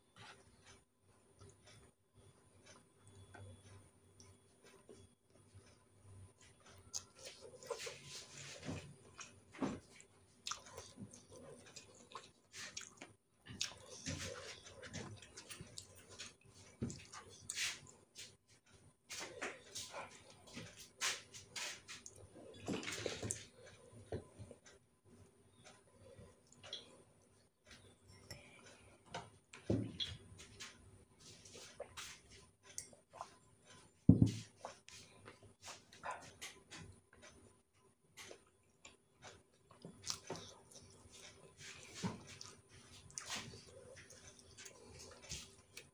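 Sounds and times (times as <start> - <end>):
person chewing food: 2.6 - 24.8, 25.5 - 45.9.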